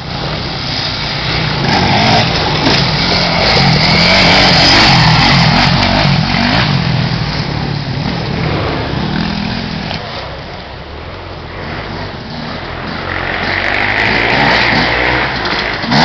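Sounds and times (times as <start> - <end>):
motorcycle revving past: 0.0 - 16.0.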